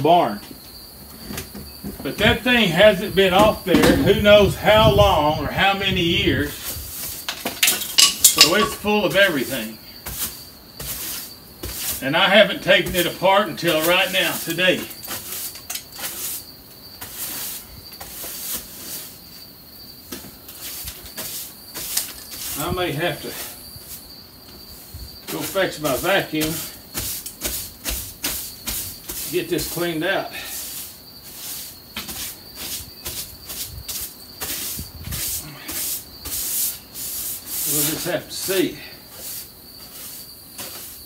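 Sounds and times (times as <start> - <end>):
tool scraping wooden sill: 1.8 - 19.3, 20.1 - 24.1, 25.2 - 41.0
brush scrubbing: 2.2 - 7.3, 8.2 - 19.3, 20.1 - 24.1, 25.2 - 41.0.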